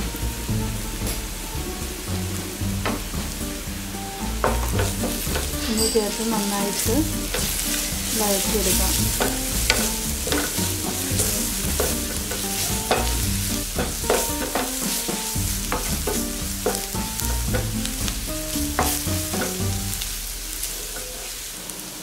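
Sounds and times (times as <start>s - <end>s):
oil sizzling: 0.0s - 22.0s
spatula scraping frying pan: 2.8s - 21.5s.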